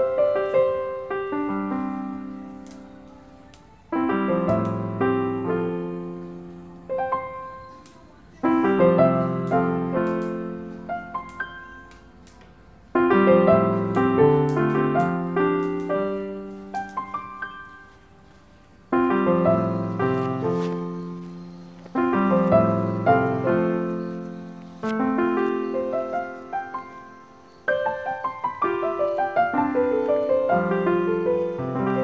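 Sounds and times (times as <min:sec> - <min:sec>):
piano chords ringing: 0:00.0 - 0:32.0
single piano notes: 0:00.0 - 0:32.0.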